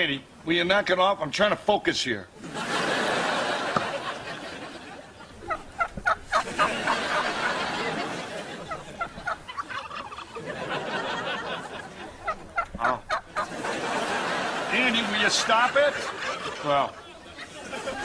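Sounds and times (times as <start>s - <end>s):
turkey gobbling: 2.6s - 18.0s.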